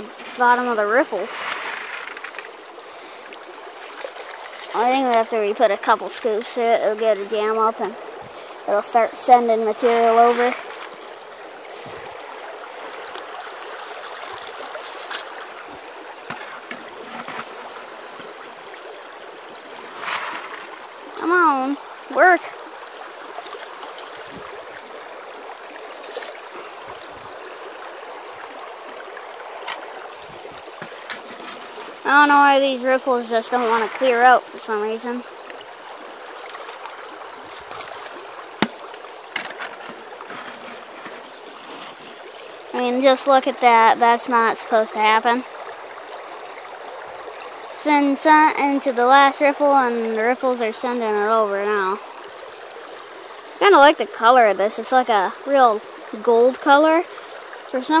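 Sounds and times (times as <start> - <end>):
water rushing through sluice box: 0.0 - 58.0.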